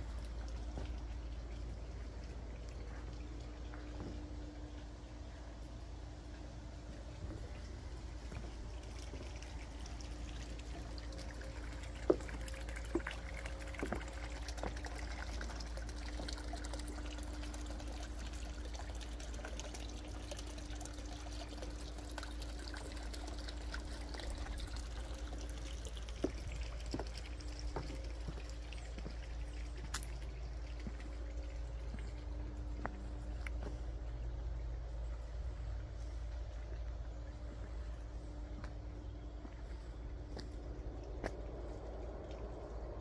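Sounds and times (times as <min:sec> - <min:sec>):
faint steady hum: 0:00.0 - 0:43.0
trickling water: 0:00.0 - 0:43.0.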